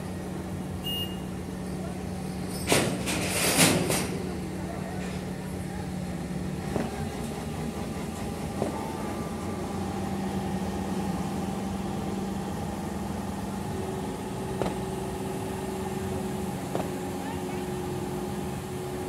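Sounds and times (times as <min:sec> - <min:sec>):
crane diesel engine running: 0:00.0 - 0:19.0.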